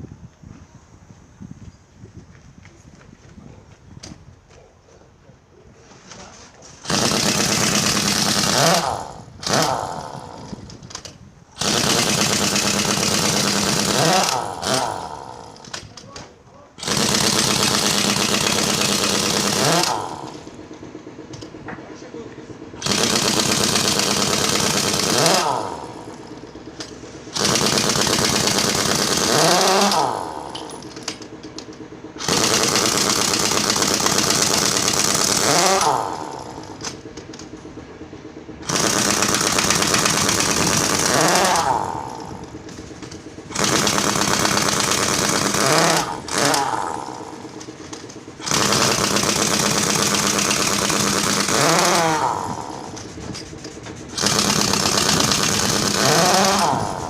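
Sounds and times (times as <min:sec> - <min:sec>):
pneumatic impact wrench hammering: 0:06.1 - 0:21.9, 0:22.6 - 0:57.0.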